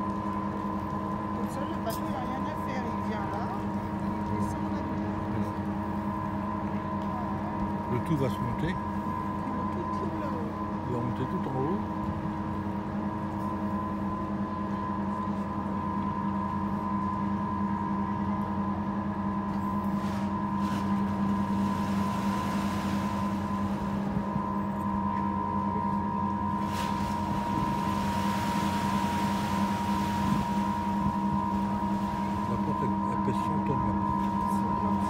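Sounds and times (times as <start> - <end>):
boat lift machinery humming: 0.0 - 35.0.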